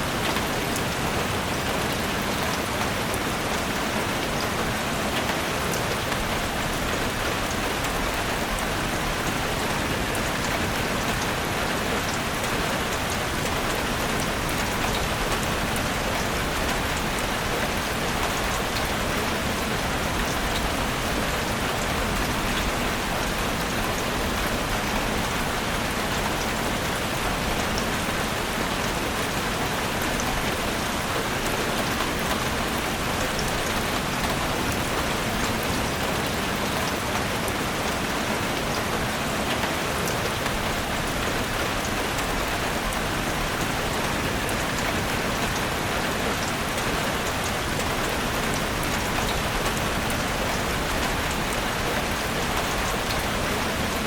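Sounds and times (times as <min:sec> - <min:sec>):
rain falling on a forest: 0:00.0 - 0:54.0.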